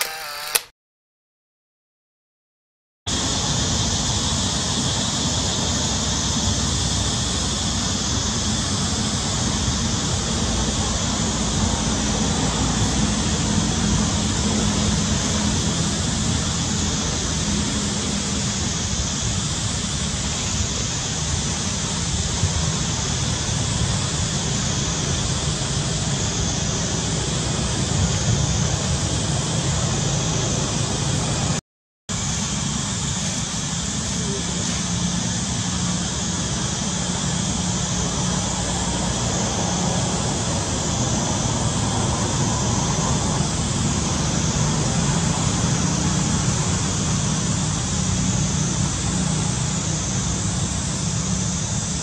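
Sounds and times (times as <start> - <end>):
constant high hiss: 3.1 - 52.0.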